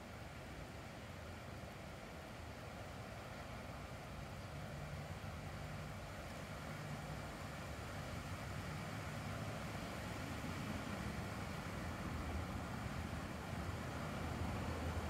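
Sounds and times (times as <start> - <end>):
faint outdoor noise: 0.0 - 15.0.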